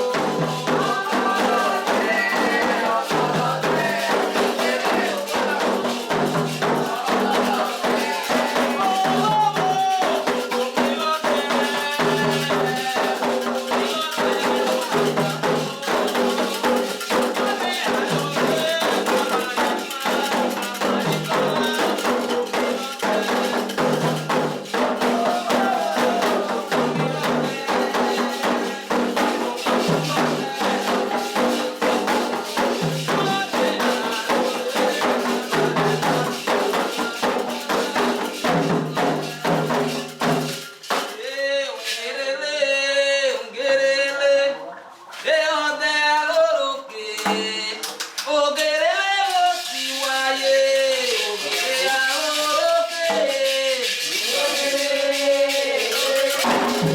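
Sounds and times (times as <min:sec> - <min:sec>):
hand drums and percussion: 0:00.0 - 0:42.4, 0:45.1 - 0:56.9
lone voice singing: 0:00.0 - 0:56.9
voices singing a chant: 0:00.0 - 0:56.9.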